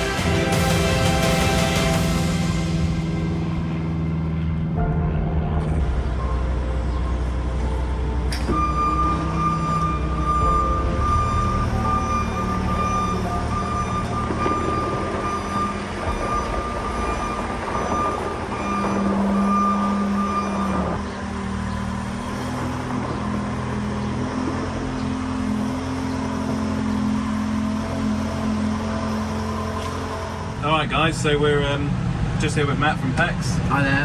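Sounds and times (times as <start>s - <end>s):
baler working: 0.0s - 34.0s
steady high whine: 0.0s - 34.0s
tractor engine running: 0.0s - 34.0s.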